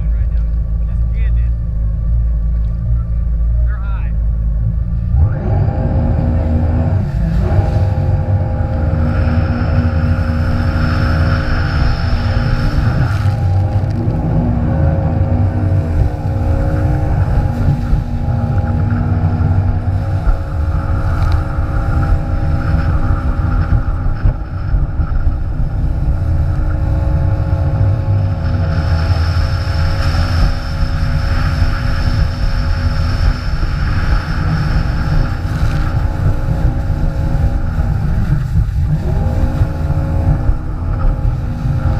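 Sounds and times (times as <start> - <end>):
jet ski engine running: 0.0 - 41.9
wind rumble on microphone: 0.0 - 41.9.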